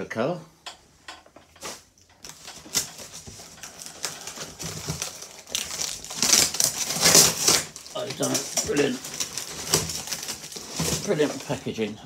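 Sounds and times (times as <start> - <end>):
cardboard rustling and scraping: 1.6 - 11.9.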